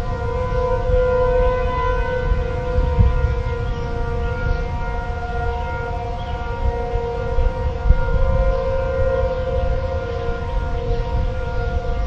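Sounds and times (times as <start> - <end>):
warning sirens: 0.0 - 12.0.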